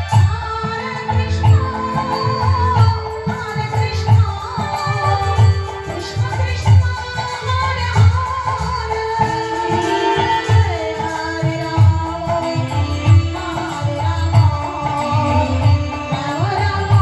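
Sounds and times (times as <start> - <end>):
devotional singing: 0.0 - 17.0.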